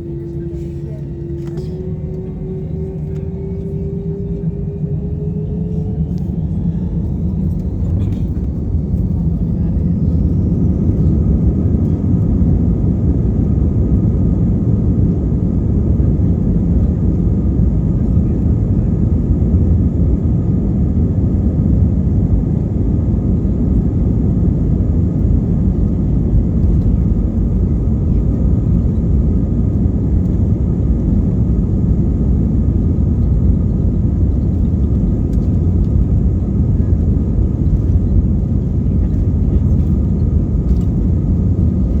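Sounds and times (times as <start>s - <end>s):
loud steady engine rumble: 0.0s - 42.0s.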